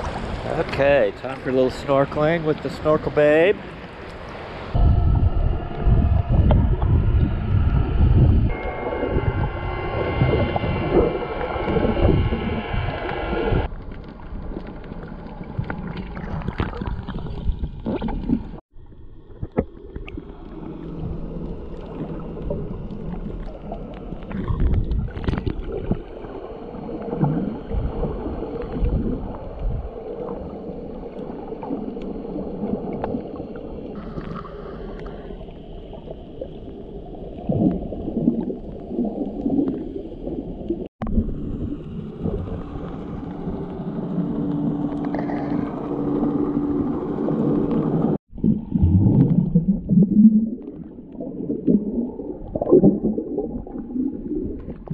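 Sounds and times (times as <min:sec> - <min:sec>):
muffled underwater sloshing: 0:00.0 - 0:54.9.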